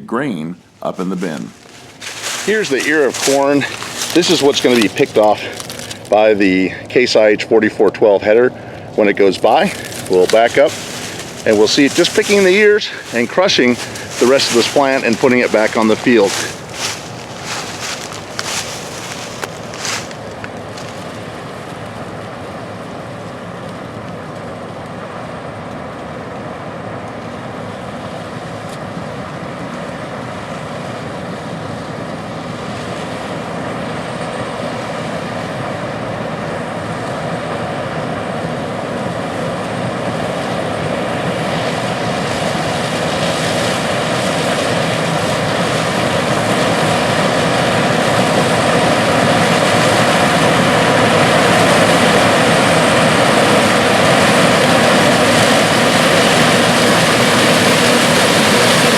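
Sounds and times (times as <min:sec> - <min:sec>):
combine harvester machinery running: 0:00.9 - 0:58.9.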